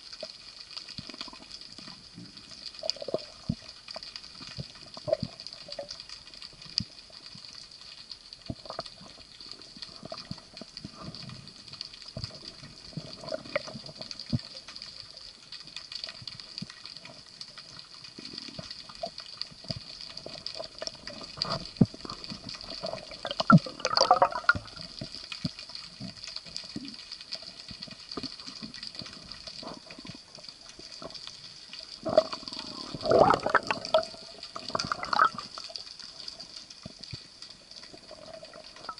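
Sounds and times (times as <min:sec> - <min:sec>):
clicks and crackles: 0:00.0 - 0:38.9
rushing bubbling water: 0:00.0 - 0:38.9.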